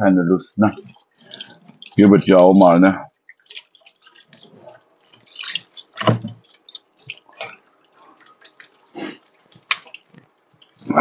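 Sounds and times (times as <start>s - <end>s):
water splashing and dripping: 0.6s - 11.0s.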